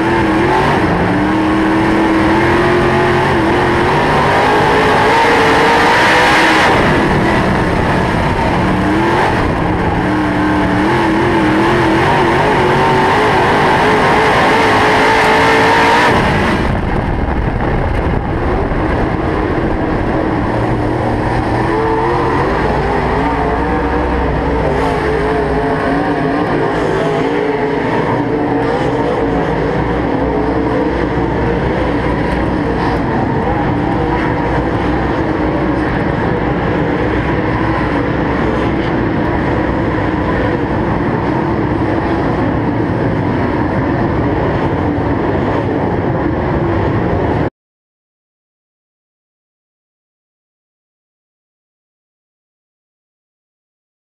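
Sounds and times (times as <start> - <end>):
race car engine at low revs: 0.0 - 47.5.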